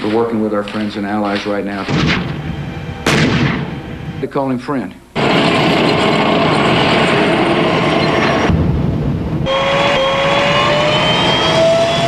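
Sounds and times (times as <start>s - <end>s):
tank track and engine noise: 0.0s - 12.0s
turbine engine whine: 1.1s - 4.4s, 5.1s - 12.0s.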